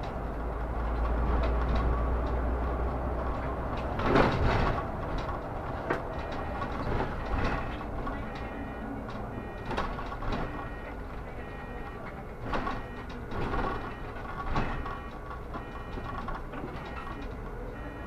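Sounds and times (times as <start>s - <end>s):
knocks and rattles: 0.0s - 10.9s, 12.4s - 17.5s
bus running noise: 0.0s - 18.0s.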